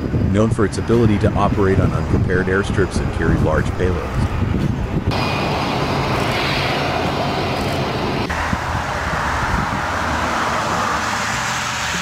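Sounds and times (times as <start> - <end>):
jet engines running: 0.0 - 12.0
low hum: 0.1 - 10.4.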